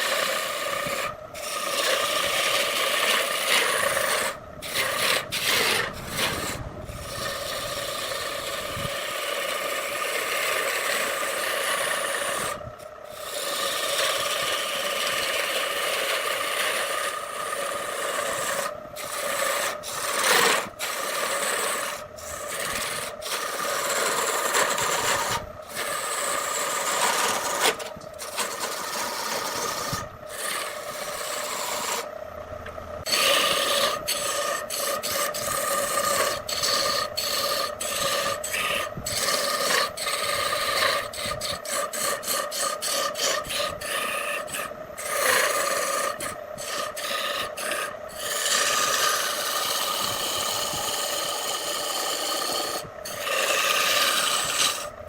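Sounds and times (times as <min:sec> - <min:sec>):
chisel cutting spinning wood: 0:00.0 - 0:55.0
lathe whine: 0:00.0 - 0:55.0.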